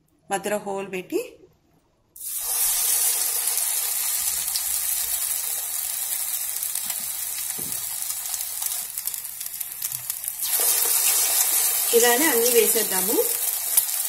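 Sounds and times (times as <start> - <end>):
hot oil sizzling: 2.2 - 14.0.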